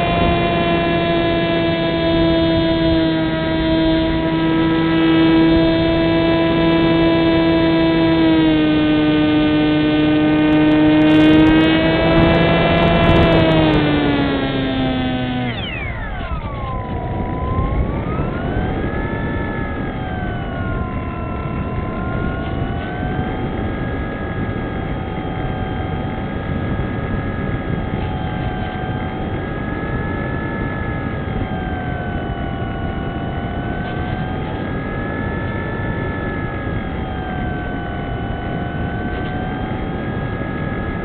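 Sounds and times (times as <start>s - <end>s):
electric motor and propeller whining: 0.0s - 41.0s.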